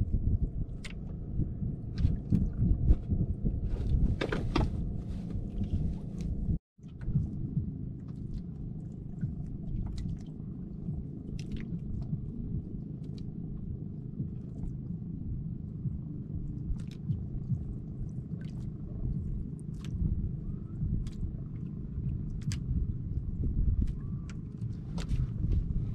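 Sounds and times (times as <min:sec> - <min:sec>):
wind rumbling on microphone: 0:00.0 - 0:25.9
water lapping against boat: 0:00.4 - 0:25.9.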